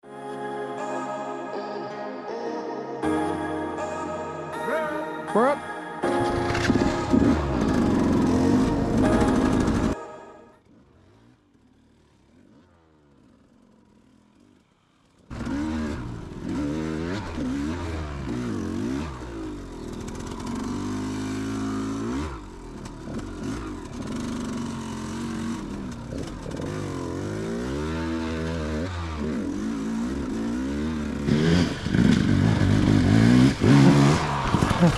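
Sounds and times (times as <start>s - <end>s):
dirt bike engine revving: 6.0s - 34.9s.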